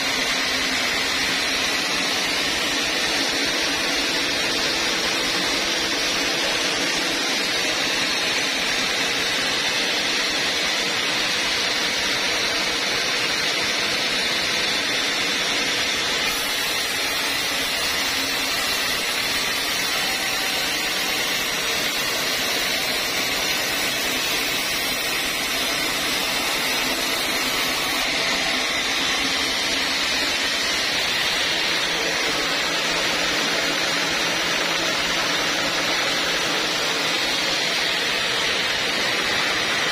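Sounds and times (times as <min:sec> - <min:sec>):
band saw cutting wood: 0:00.0 - 0:10.7, 0:14.6 - 0:39.9.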